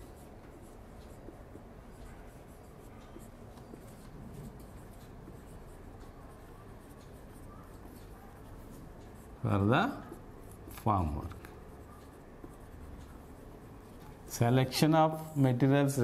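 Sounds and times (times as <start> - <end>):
marker writing on whiteboard: 0.0 - 15.5.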